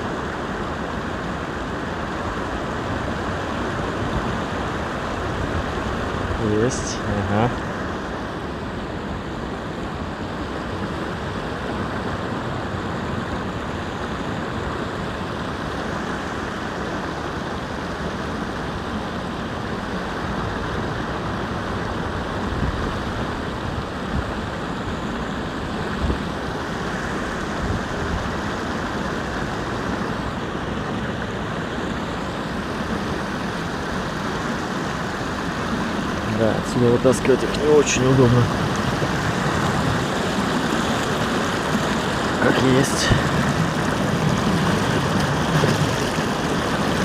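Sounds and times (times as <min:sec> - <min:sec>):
steady rushing noise: 0:00.0 - 0:47.0.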